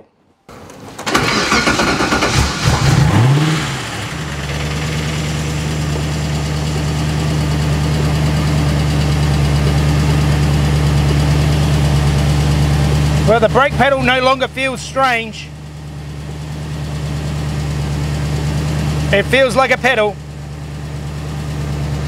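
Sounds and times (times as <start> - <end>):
car engine starting and idling: 0.5 - 22.0.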